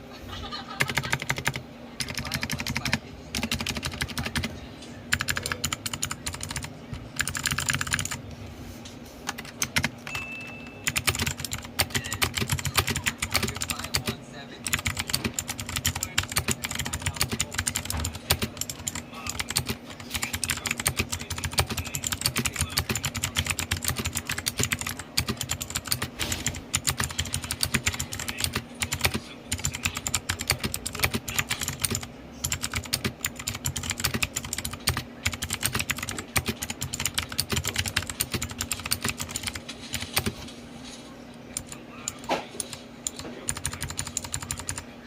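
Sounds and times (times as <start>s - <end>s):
mechanical keyboard typing: 0.8s - 4.5s, 5.1s - 8.2s, 9.3s - 40.4s, 41.5s - 44.9s.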